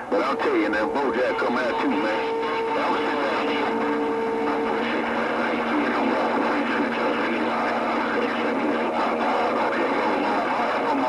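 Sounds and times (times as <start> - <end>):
faint low hum: 0.0 - 11.0
radio static hiss: 0.0 - 11.0.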